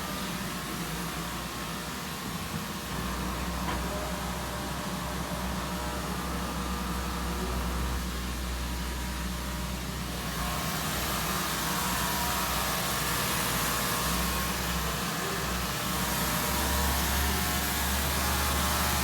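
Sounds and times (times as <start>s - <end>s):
sawmill machinery drone: 0.0s - 19.0s.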